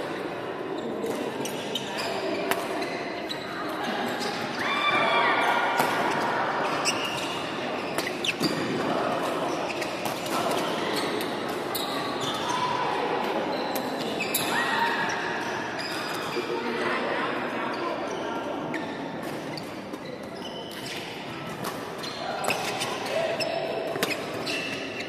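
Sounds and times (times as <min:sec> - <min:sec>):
murmur of voices: 0:00.0 - 0:25.0.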